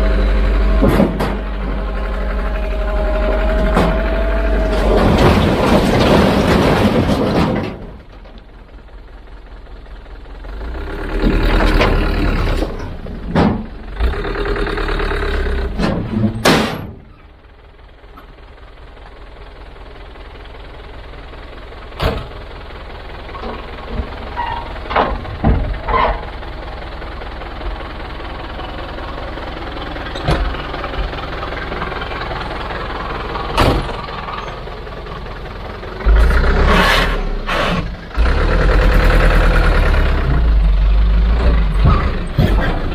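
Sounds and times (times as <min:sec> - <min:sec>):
heavy machine engine rumbling: 0:00.0 - 0:42.9.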